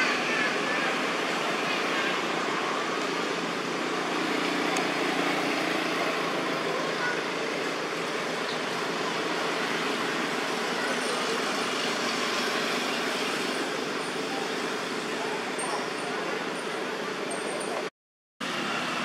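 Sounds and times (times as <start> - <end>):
road traffic hiss: 0.0 - 17.8, 18.4 - 19.0.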